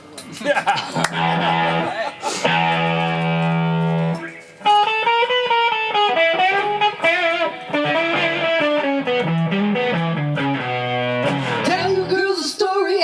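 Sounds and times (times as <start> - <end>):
overdriven electric guitar: 0.9 - 13.0.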